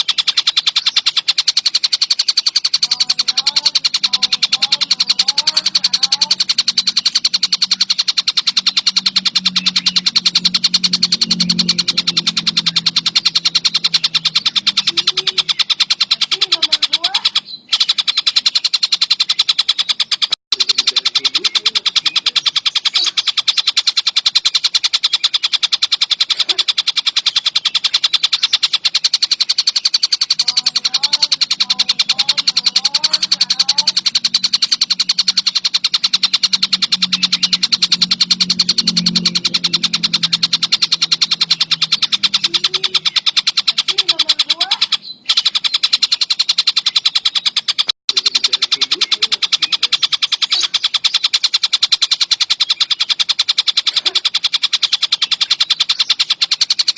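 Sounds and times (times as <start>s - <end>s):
kingfisher rattling trill: 0.0s - 56.9s.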